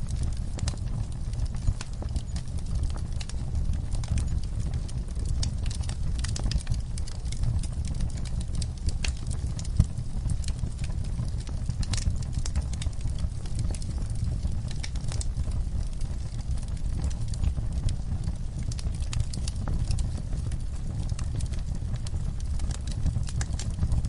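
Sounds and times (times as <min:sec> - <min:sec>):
low rumble of fire: 0:00.0 - 0:24.0
wood fire crackling and popping: 0:00.0 - 0:24.0.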